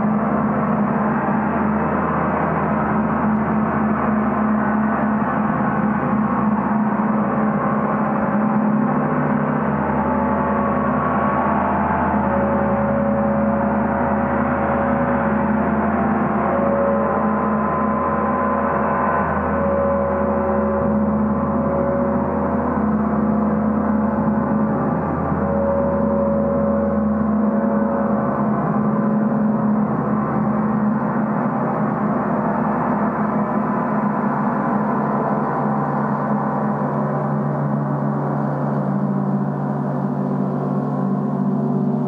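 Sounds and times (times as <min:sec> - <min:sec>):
gong shimmering wash: 0:00.0 - 0:42.0.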